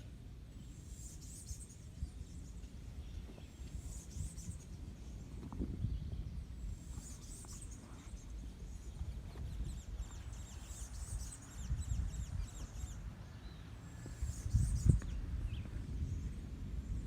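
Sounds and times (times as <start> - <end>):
small birds chirping: 0.0 - 17.0
steady low rumble: 1.7 - 17.0.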